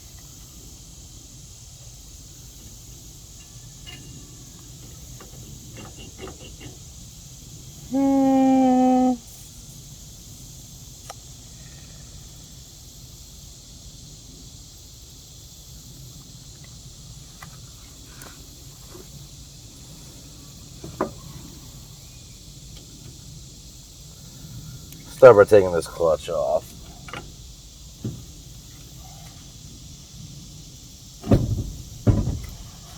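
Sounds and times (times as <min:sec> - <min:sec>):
crickets and insects chirring: 0:00.0 - 0:32.9.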